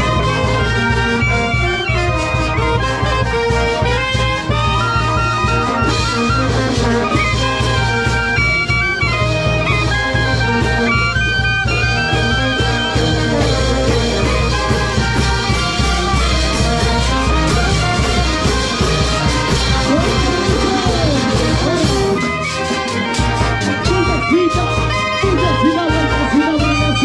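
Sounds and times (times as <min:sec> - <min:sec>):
bass drum beat: 0:00.0 - 0:27.0
clarinets and saxophones: 0:00.0 - 0:27.0.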